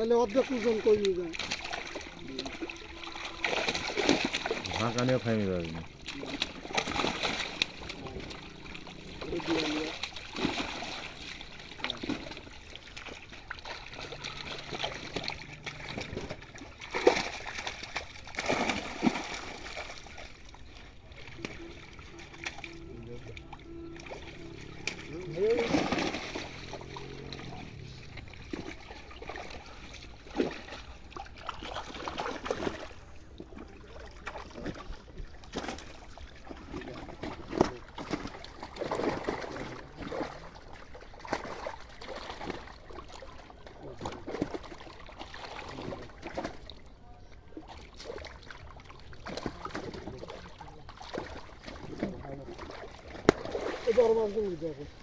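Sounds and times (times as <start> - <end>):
pond water splashing: 0.0 - 55.0.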